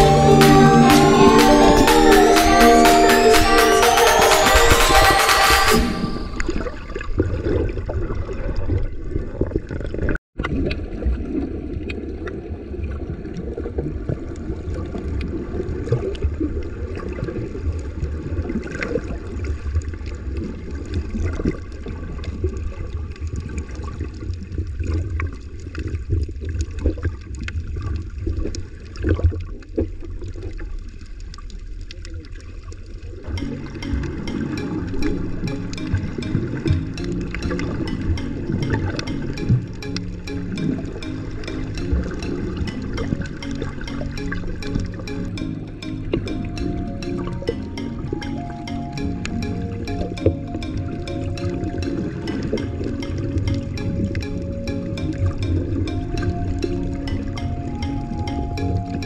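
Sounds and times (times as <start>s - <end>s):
muffled underwater rushing and bubbling: 5.9s - 59.0s.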